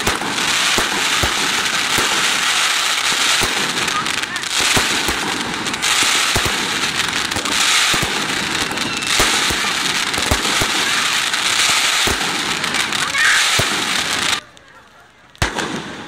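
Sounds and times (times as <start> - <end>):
firework shells booming: 0.0 - 14.8, 15.4 - 16.0
crackling hiss: 0.0 - 16.0.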